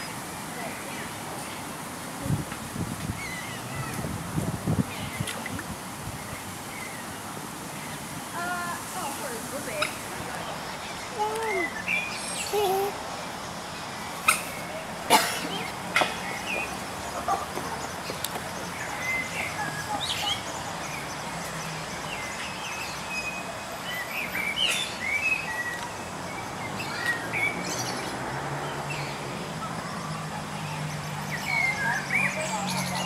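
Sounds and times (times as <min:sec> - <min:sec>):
birds chirping: 0:00.0 - 0:33.0
steady outdoor hiss: 0:00.0 - 0:33.0.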